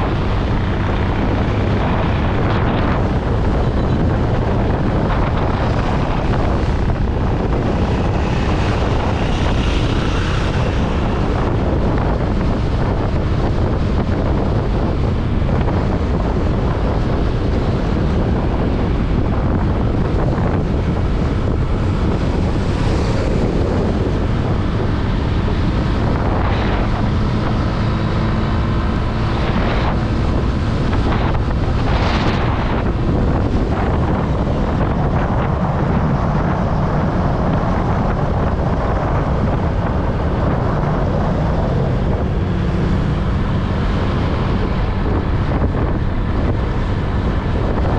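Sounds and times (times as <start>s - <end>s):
wind rushing over microphone: 0.0s - 47.9s.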